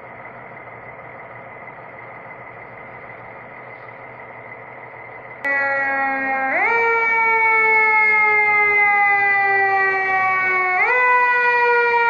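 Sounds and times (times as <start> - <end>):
fire engine siren: 0.0 - 12.0.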